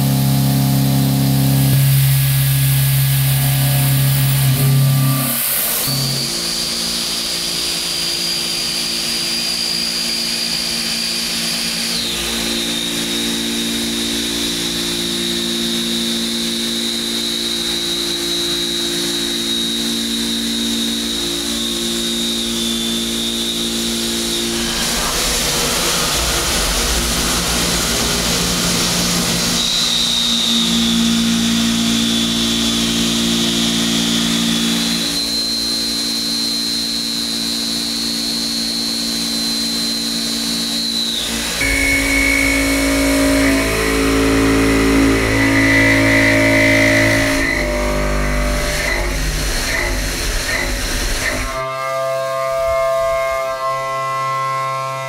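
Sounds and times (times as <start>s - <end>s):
milling machine cutting metal: 0.0s - 54.8s.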